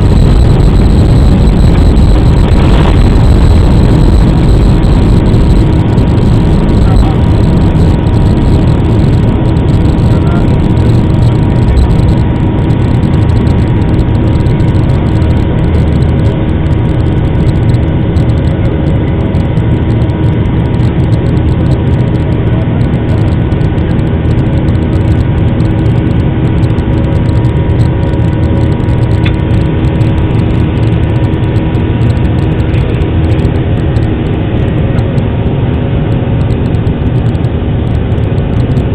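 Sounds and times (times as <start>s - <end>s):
faint steady tones: 0.0s - 35.3s
jet engines at takeoff: 0.0s - 38.9s.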